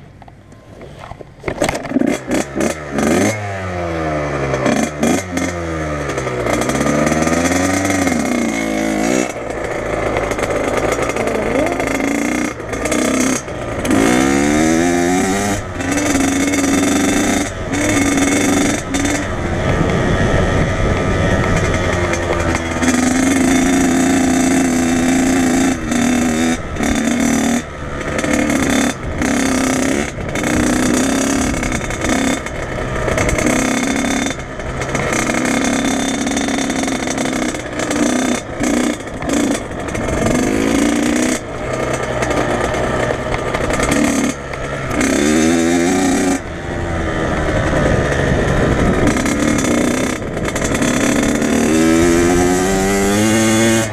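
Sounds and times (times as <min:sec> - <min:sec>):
dirt bike engine revving: 0:00.7 - 0:53.9.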